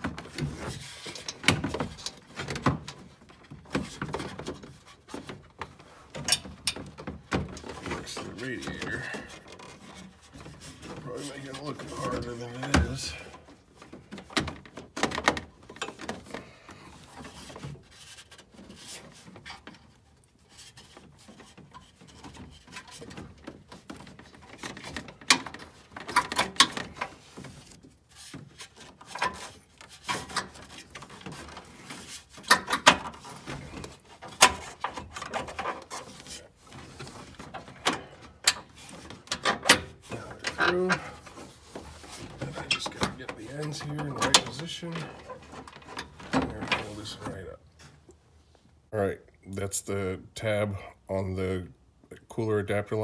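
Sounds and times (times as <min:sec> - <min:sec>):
hoses rubbing clicking and knocking: 0:00.0 - 0:48.9.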